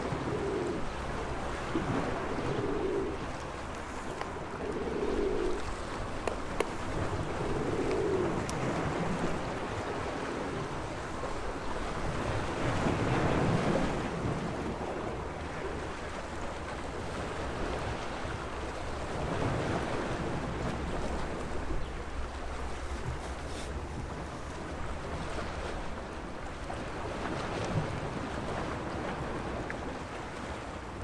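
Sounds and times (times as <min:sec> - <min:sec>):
sea waves washing on shore: 0:00.0 - 0:31.0.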